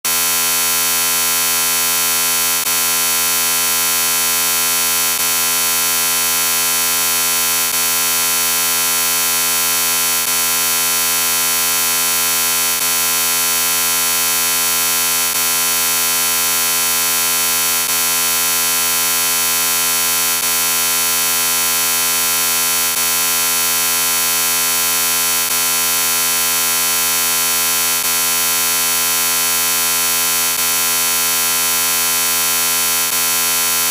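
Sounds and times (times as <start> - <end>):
harsh electronic buzz: 0.1 - 33.9.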